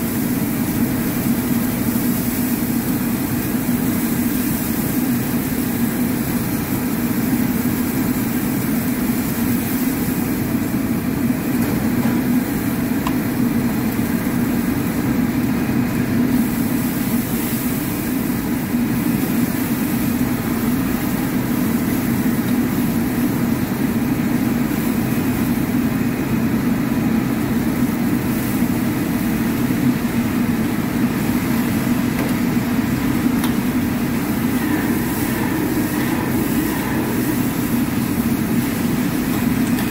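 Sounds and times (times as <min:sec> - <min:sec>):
gas burner roaring: 0:00.0 - 0:39.9.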